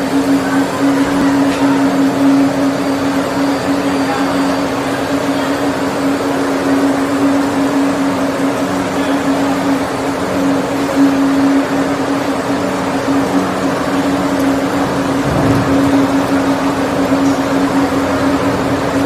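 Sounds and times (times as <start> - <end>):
constant hum: 0.0 - 19.0
conveyor machine noise: 0.0 - 19.0.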